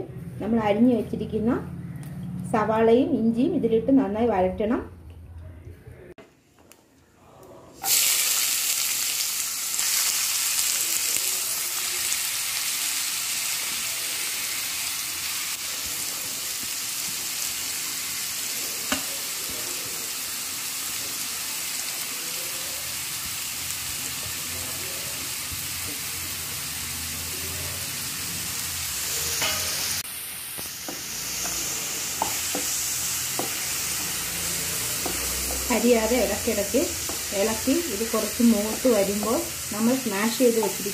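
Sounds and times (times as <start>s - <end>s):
onions sizzling in hot oil: 7.8s - 40.9s.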